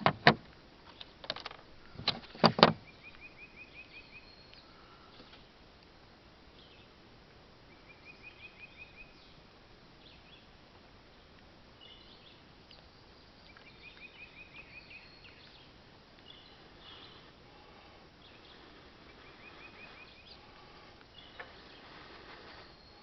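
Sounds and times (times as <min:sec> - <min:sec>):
faint birds chirping: 0:00.0 - 0:23.0
outdoor background noise: 0:00.0 - 0:23.0.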